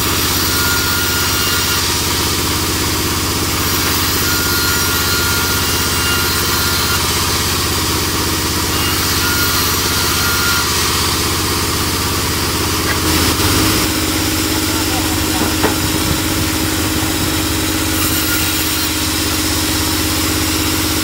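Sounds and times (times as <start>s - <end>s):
band saw drone: 0.0s - 21.0s.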